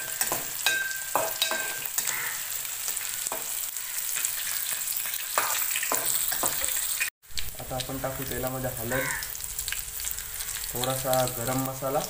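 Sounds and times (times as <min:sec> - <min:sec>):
fish sizzling in oil: 0:00.0 - 0:12.0
sharp crackles of frying: 0:00.0 - 0:12.0.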